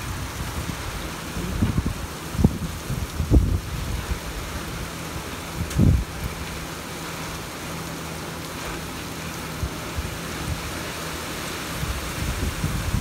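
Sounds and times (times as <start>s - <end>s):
cars driving through water: 0.0s - 13.0s
heavy rain: 0.0s - 13.0s.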